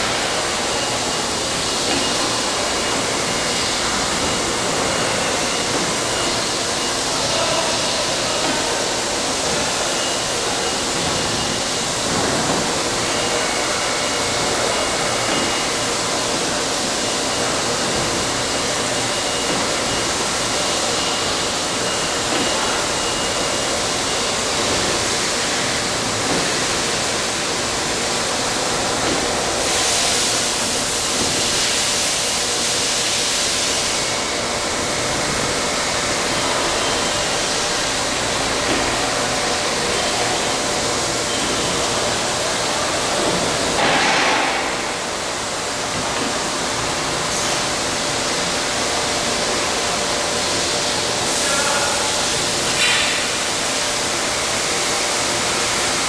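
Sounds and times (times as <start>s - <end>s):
tube bending machine hissing: 0.0s - 56.0s.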